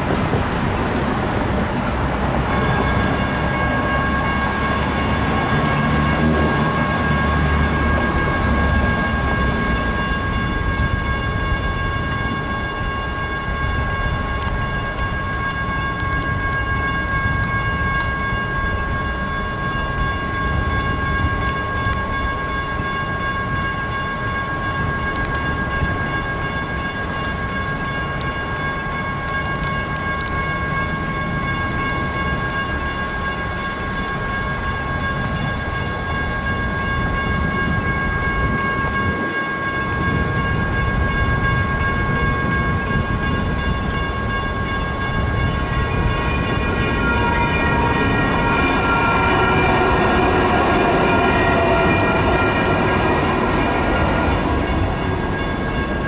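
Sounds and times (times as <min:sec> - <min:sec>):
electronic railroad crossing bells: 0:00.0 - 0:56.0
train rumbling past: 0:00.0 - 0:56.0.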